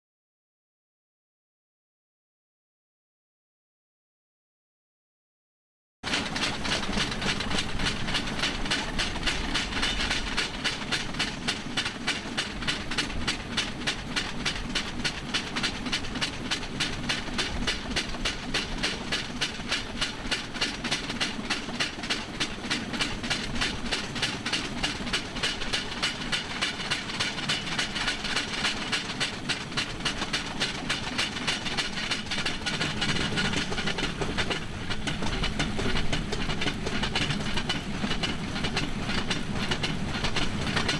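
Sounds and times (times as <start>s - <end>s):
steel wheels rolling on rail track: 6.0s - 40.9s
rapid even clicking: 6.1s - 40.9s.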